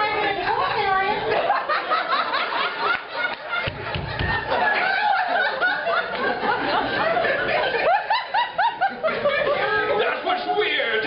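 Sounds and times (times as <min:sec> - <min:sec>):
audience laughing: 0:00.5 - 0:10.0.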